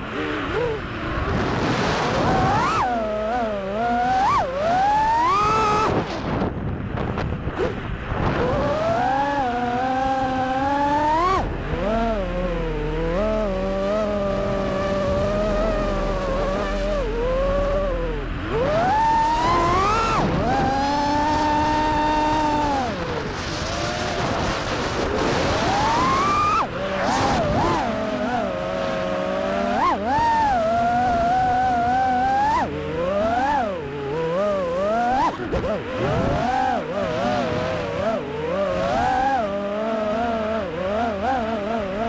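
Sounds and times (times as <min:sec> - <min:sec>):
quadcopter motors whining: 0:00.0 - 0:42.0.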